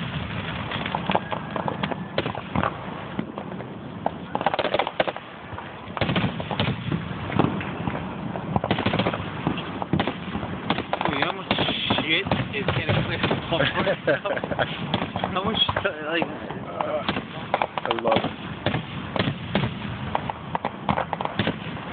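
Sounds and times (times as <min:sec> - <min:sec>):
fireworks crackling and popping: 0:00.0 - 0:21.9.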